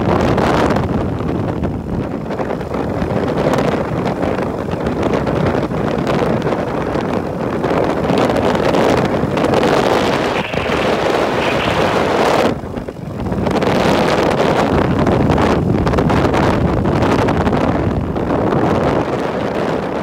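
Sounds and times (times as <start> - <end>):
road and vehicle noise: 0.0 - 19.9
wind rushing over microphone: 0.0 - 20.0.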